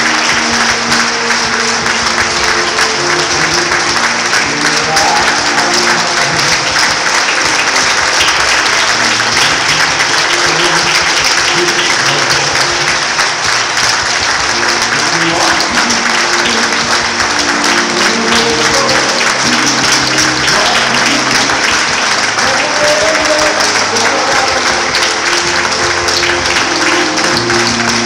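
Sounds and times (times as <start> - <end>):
crowd applauding: 0.0 - 28.0
music playing: 0.0 - 28.0.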